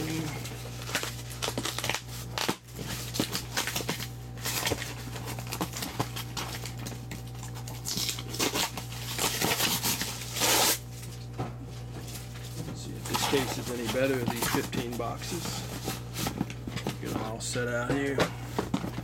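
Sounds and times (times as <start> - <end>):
card boxes rustling and scraping: 0.0 - 19.0
low electrical hum: 0.0 - 19.0.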